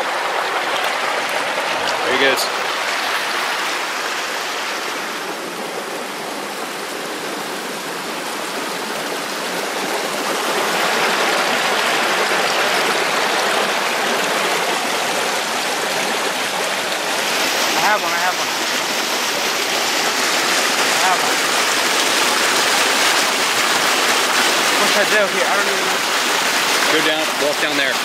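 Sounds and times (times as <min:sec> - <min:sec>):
stream running over rocks: 0:00.0 - 0:28.0.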